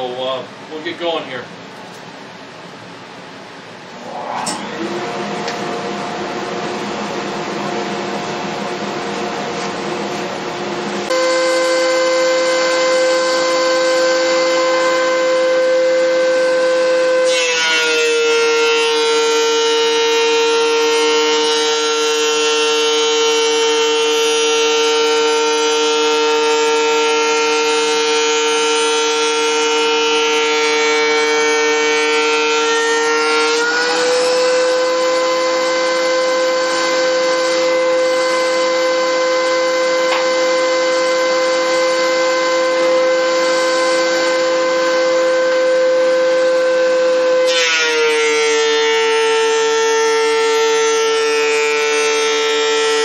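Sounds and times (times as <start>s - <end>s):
thickness planer whining: 3.9s - 53.0s.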